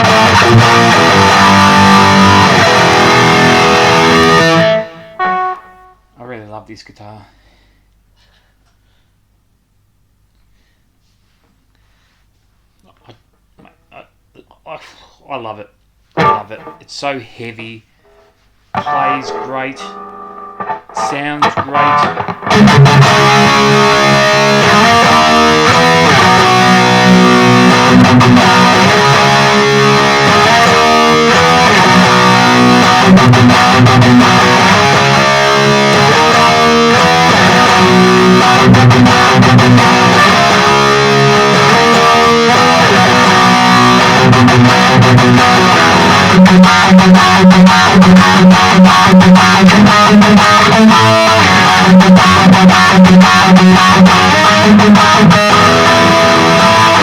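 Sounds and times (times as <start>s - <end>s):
distorted electric guitar riffs: 0.0s - 6.2s, 16.2s - 17.0s, 18.0s - 57.0s.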